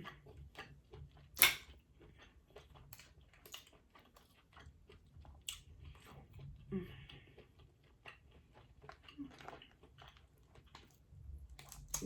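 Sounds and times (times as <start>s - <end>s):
wet chewing and smacking: 0.0s - 12.0s.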